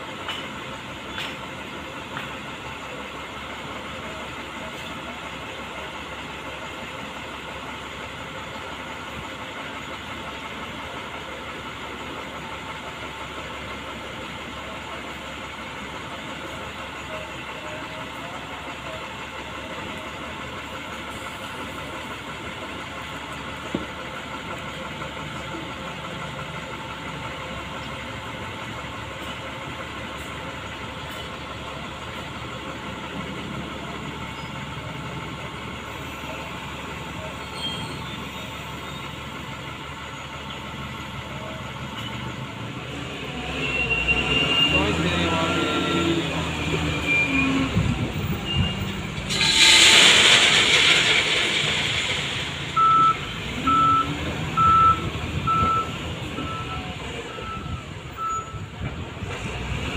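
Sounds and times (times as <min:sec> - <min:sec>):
diesel engine droning: 0:00.0 - 0:59.9
wagons moving on track: 0:00.0 - 0:59.9.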